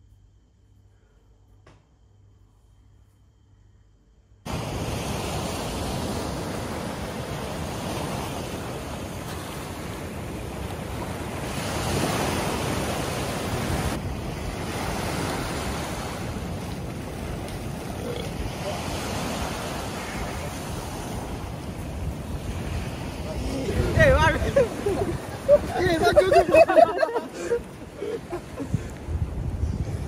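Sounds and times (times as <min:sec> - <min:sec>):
sea surf washing onto beach: 0:04.5 - 0:30.0
wind buffeting microphone: 0:04.5 - 0:30.0.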